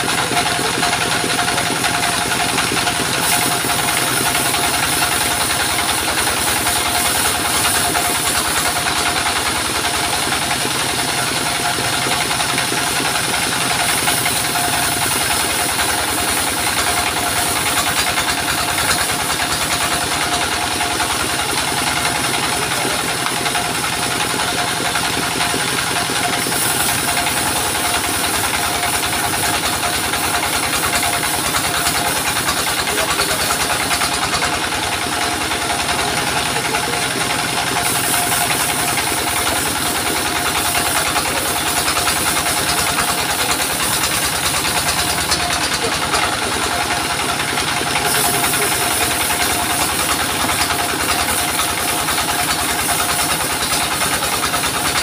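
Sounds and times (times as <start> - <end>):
circular saw cutting logs: 0.0 - 55.0
diesel engine running steadily: 0.0 - 55.0.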